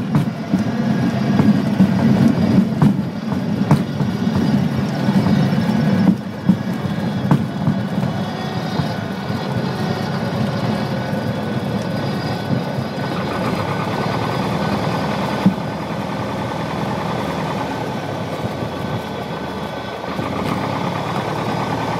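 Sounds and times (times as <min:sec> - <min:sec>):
light aircraft engine and propeller: 0:00.0 - 0:21.9.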